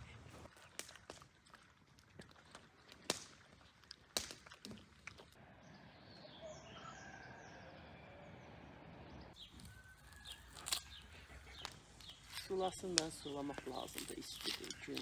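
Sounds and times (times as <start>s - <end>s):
low outdoor background: 0.0s - 15.0s.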